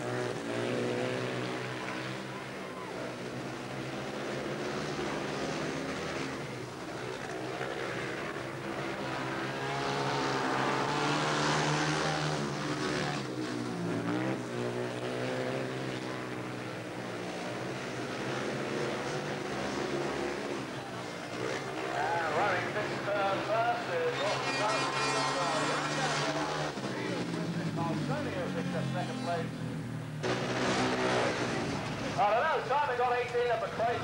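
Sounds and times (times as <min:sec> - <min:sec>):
motorcycle engines racing: 0:00.0 - 0:34.0.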